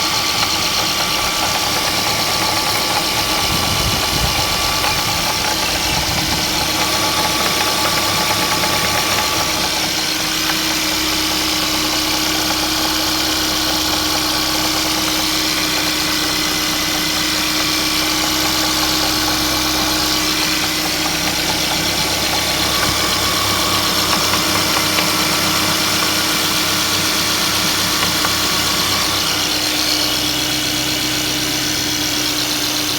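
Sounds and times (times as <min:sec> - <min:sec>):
cold petrol engine idling: 0:00.0 - 0:32.9.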